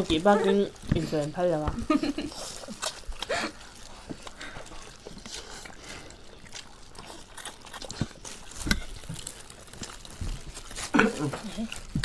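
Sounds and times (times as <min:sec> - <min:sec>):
chewing sounds: 0:00.0 - 0:12.0
people slurping noodles: 0:00.0 - 0:12.0.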